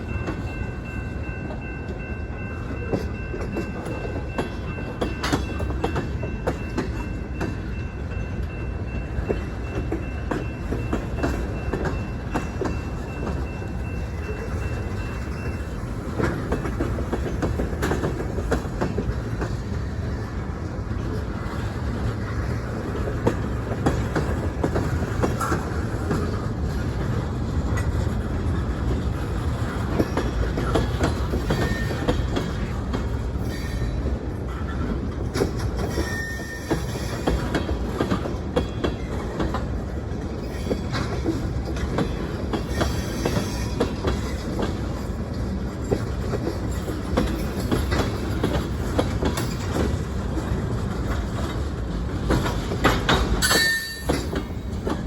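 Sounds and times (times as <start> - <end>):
freight train rolling past: 0.0 - 55.0
wheels clicking over rail joints: 8.4 - 55.0.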